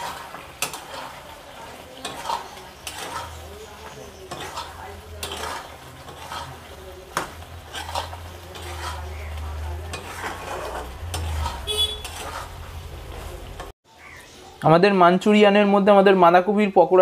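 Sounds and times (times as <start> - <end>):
spatula scraping iron pan: 0.0 - 13.7
light sizzle: 0.0 - 15.4.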